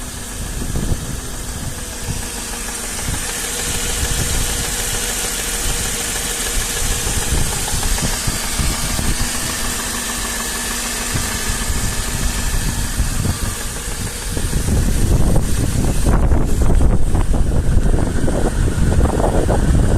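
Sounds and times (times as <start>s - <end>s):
engine idling with knock: 0.0s - 19.9s
louder rumbling noise: 0.0s - 19.9s.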